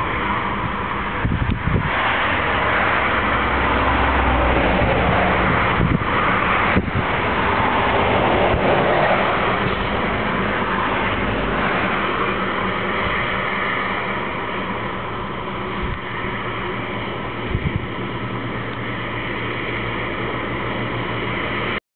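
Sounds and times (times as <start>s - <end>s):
turboprop aircraft drone: 0.0s - 21.8s.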